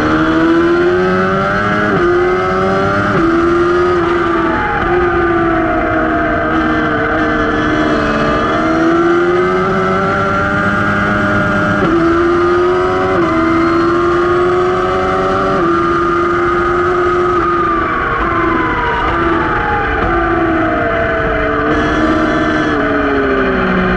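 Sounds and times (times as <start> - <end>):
motorcycle engine racing: 0.0 - 23.9.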